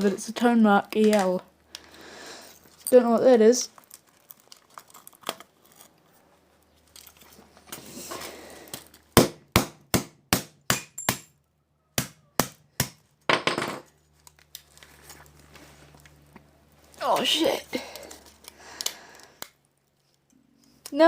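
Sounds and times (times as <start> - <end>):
crinkling and scraping of parts: 0.0 - 9.2, 13.0 - 21.0.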